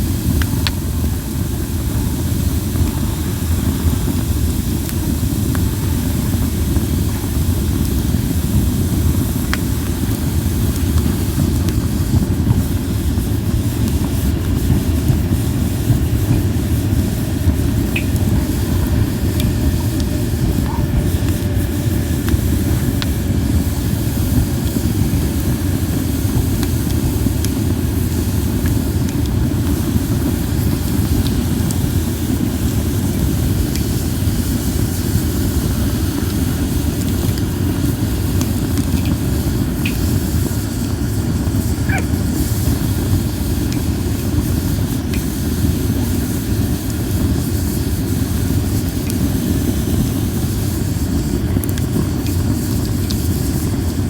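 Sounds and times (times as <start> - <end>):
campfire flames roaring: 0.0 - 54.0
faint fire crackles: 0.0 - 54.0
thin whistle from fire: 0.0 - 54.0.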